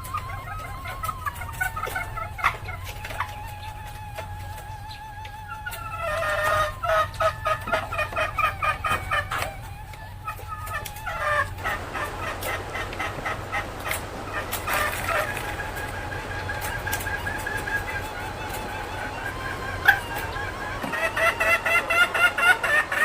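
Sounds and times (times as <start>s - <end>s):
hen cackling: 0.0s - 23.0s
steady low hum: 0.0s - 23.0s.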